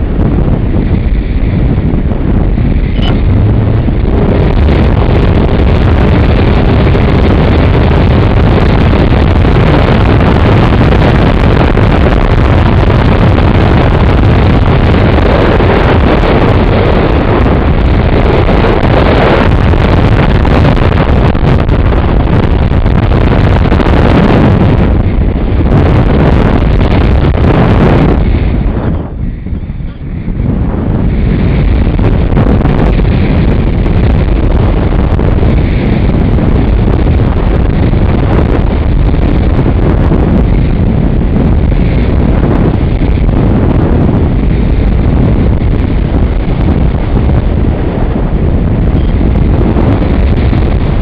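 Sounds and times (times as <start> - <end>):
electric motor and propeller: 0.0 - 51.0
wind buffeting microphone: 0.0 - 51.0.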